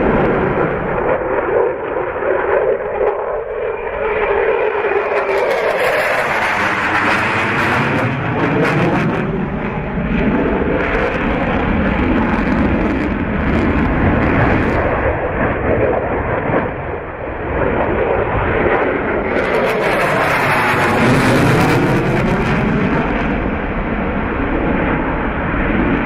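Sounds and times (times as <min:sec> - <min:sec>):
aircraft engine roar: 0:00.0 - 0:26.0.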